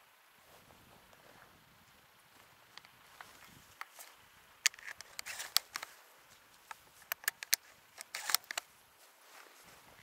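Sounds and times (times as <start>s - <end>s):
footsteps crunching in snow: 0.4s - 4.2s, 5.2s - 10.0s
dry brush rustling: 0.4s - 10.0s.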